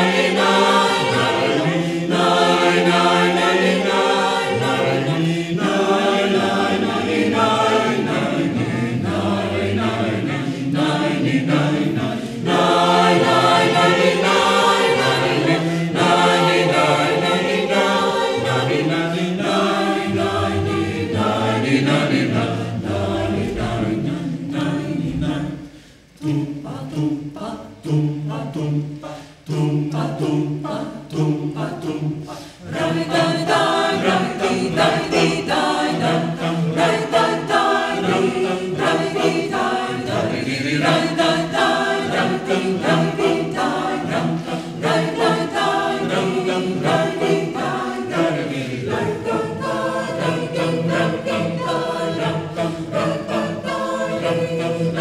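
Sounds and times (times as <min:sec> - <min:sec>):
mixed choir singing a cappella: 0:00.0 - 0:55.0.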